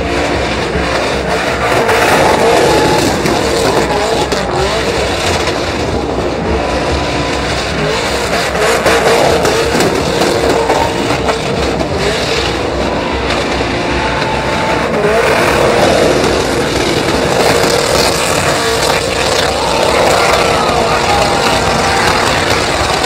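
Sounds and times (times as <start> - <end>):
engines revving hard: 0.0 - 23.0
tires spinning on pavement: 0.0 - 23.0.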